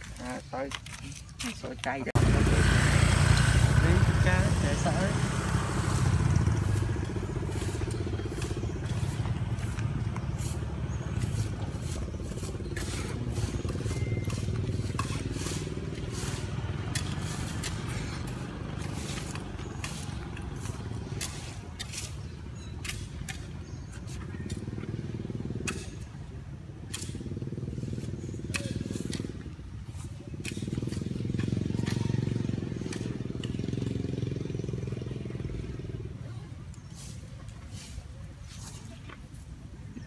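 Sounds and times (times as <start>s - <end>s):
motorcycle engine running: 2.1s - 36.6s.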